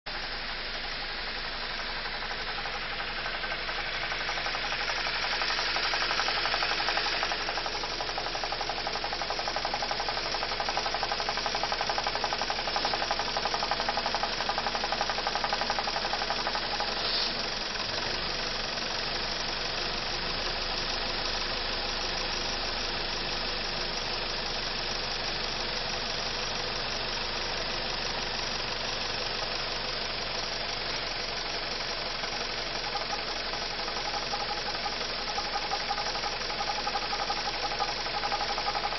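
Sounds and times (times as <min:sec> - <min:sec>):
car engine idling with clatter: 0:00.1 - 0:38.9.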